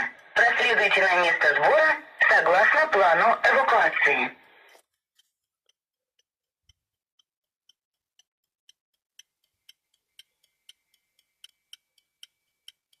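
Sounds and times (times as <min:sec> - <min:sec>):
faint regular ticking: 0:00.0 - 0:13.0.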